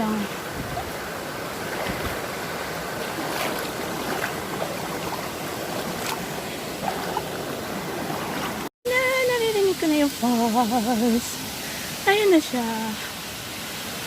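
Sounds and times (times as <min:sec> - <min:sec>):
small water cascade: 0:00.0 - 0:14.0
stream running over rocks: 0:00.0 - 0:14.0.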